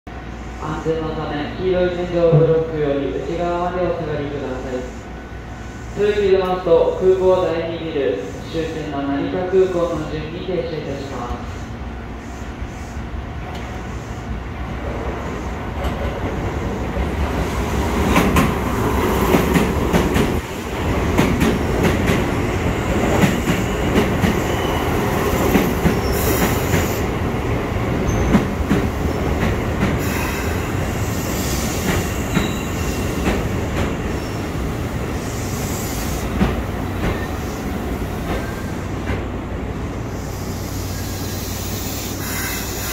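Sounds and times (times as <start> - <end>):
electric train rumble: 0.1 - 42.9.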